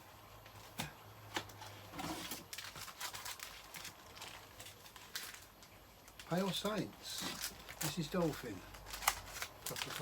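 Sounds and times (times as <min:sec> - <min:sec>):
card and plastic rustling: 0:00.6 - 0:10.0.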